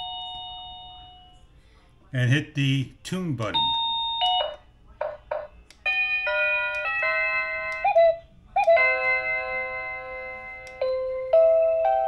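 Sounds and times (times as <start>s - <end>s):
electronic doorbell melody: 0.0s - 1.4s, 3.5s - 12.0s.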